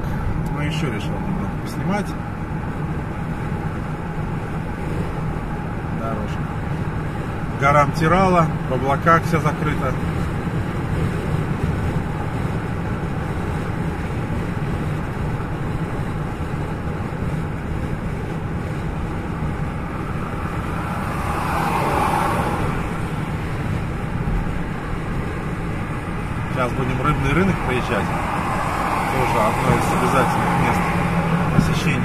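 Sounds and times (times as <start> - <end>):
car road and engine noise: 0.0 - 32.0.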